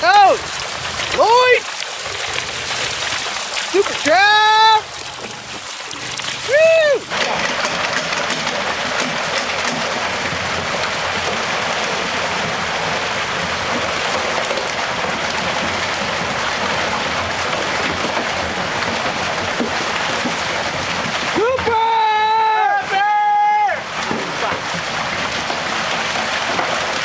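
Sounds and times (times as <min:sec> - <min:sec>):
water rushing from a pipe: 0:00.0 - 0:27.0.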